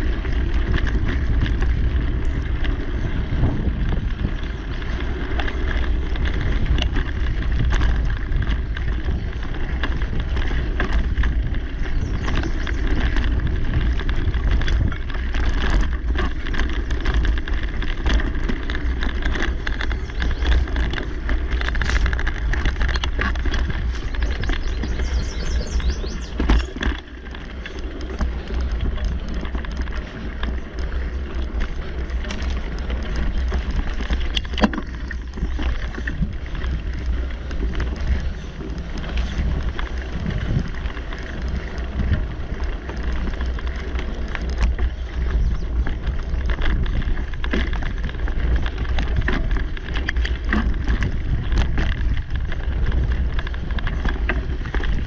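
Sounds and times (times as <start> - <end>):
bike clicking and rattling: 0.0 - 55.0
bike tyres rolling on dirt: 0.0 - 55.0
wind on microphone: 0.0 - 55.0.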